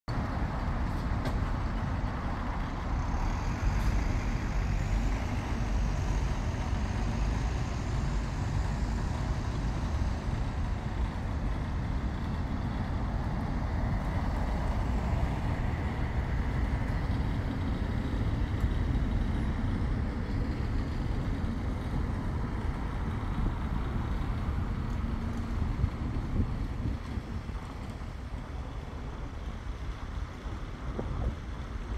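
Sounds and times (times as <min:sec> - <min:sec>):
road traffic rumble: 0:00.1 - 0:31.9.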